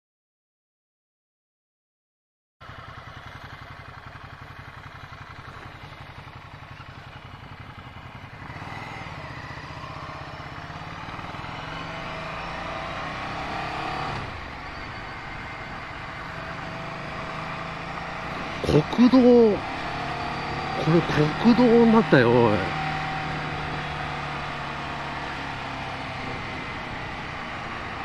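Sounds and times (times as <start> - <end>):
motorcycle engine accelerating: 2.6 - 28.0.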